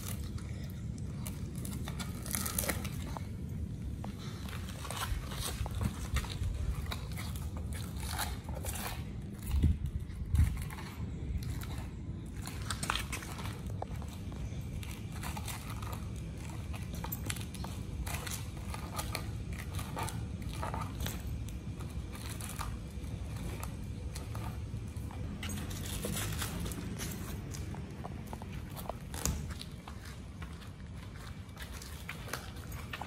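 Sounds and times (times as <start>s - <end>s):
dog gnawing coconut husk: 0.0s - 33.0s.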